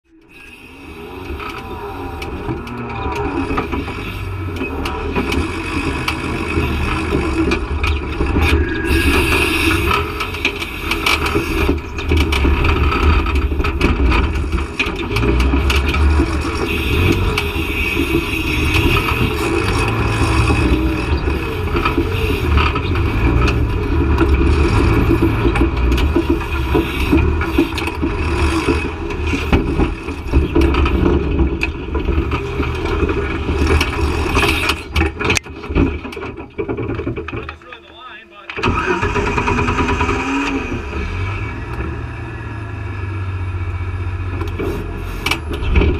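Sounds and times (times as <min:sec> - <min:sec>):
buggy engine running hard: 0:00.0 - 0:45.9.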